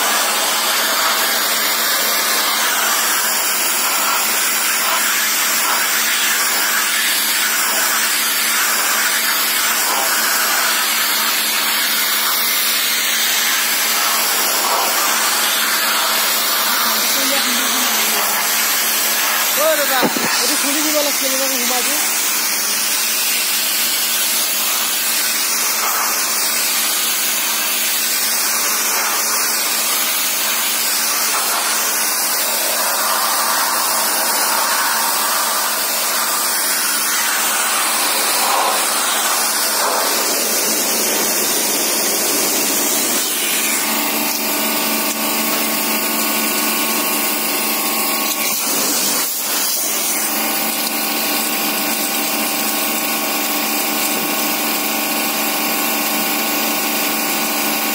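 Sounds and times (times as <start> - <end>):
water jet hissing through metal fins: 0.0 - 54.7
pressure washer pump humming: 0.0 - 57.9.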